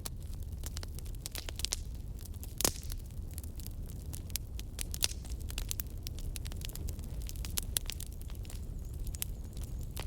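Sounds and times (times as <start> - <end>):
low rumble of flames: 0.0 - 10.0
wood crackling and popping: 0.0 - 10.0.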